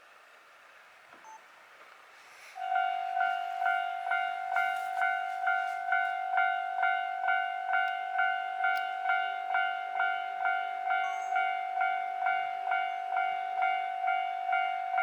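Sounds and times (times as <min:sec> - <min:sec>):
level-crossing warning bell: 0:02.6 - 0:15.0.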